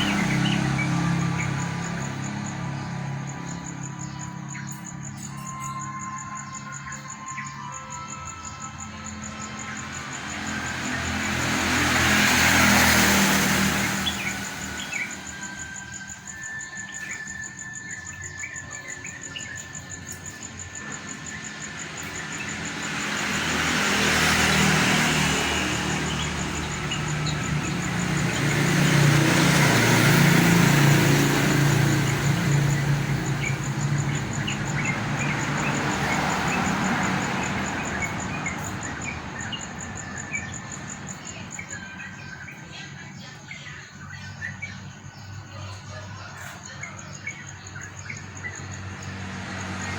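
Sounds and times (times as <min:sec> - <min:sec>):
birds chirping: 0:00.0 - 0:49.9
insects buzzing: 0:00.0 - 0:49.9.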